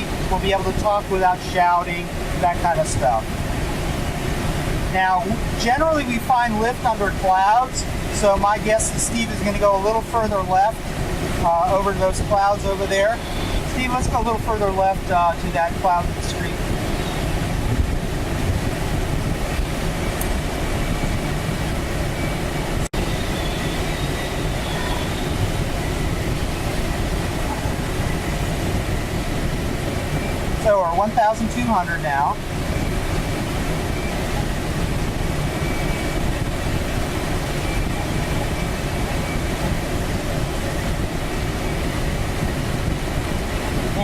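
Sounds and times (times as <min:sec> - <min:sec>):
rushing wind and airframe noise: 0:00.0 - 0:44.0.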